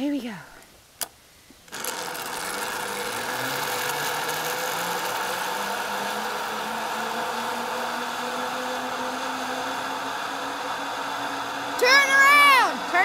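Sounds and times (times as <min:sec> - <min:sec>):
zip line pulleys whirring: 0:01.7 - 0:13.0.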